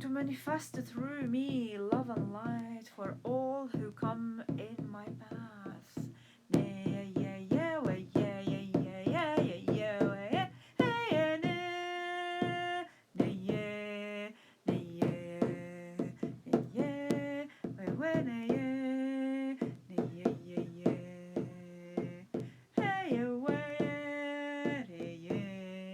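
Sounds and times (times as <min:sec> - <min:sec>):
hand drum beat: 0:00.0 - 0:11.6, 0:14.7 - 0:18.8, 0:19.6 - 0:25.6.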